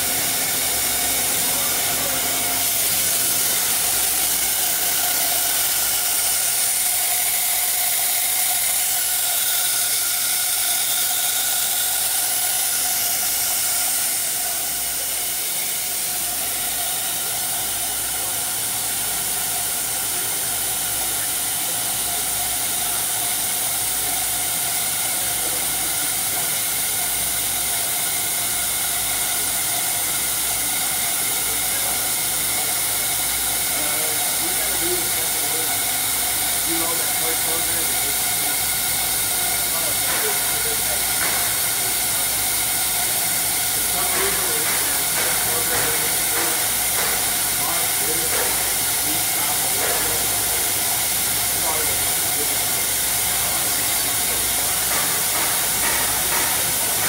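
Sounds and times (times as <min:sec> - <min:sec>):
cnc router hiss and whine: 0:00.0 - 0:57.0.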